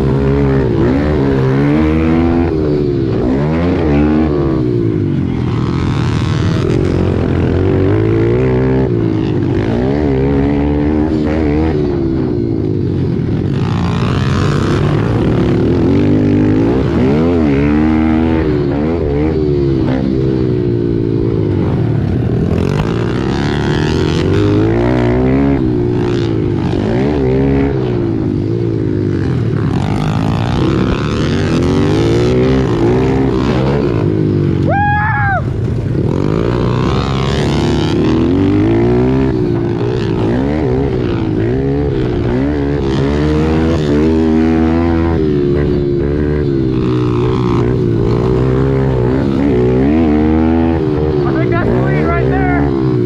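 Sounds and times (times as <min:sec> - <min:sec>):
pit bike engines revving: 0:00.0 - 0:53.0.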